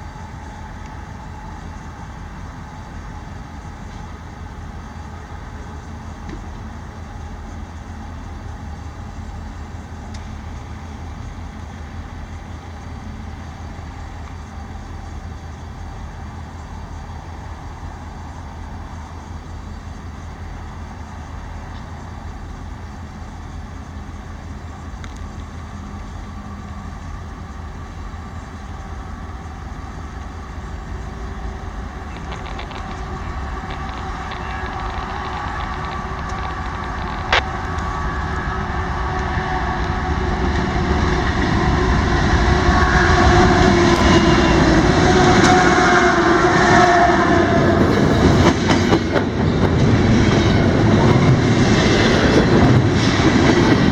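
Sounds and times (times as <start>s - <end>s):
freight train wheels rumbling: 0.0s - 53.9s
wheels clacking on rails: 0.0s - 53.9s.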